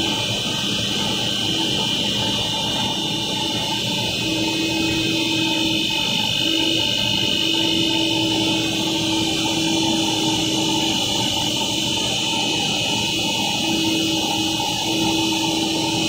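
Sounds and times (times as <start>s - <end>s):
machine drone with high whine: 0.0s - 16.0s.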